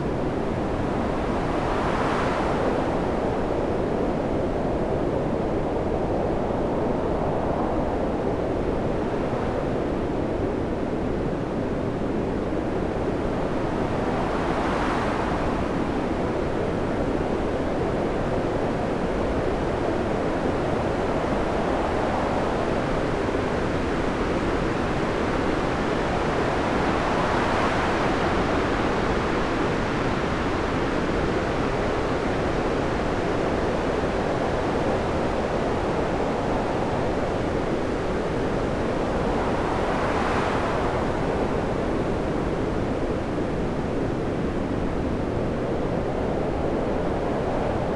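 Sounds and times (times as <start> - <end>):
stormy waves and surf rushing: 0.0 - 47.9.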